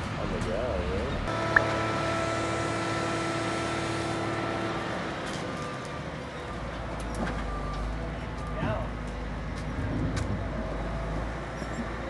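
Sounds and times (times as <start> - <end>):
motor grader engine whine: 0.0 - 12.0.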